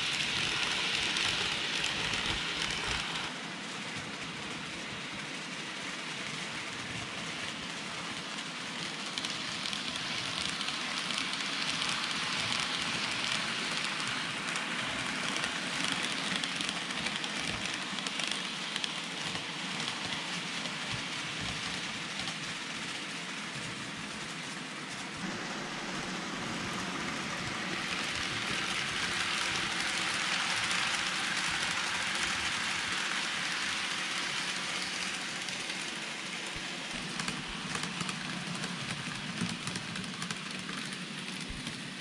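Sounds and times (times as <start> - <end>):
model train wheels rattling on rails: 0.0 - 42.0.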